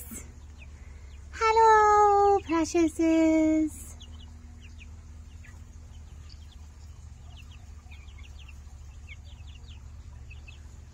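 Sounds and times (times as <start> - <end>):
chicks peeping: 0.0 - 10.9
low steady hum: 0.0 - 10.9.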